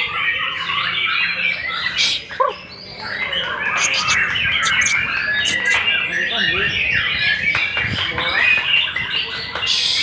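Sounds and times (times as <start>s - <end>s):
songbird singing: 0.0s - 10.0s.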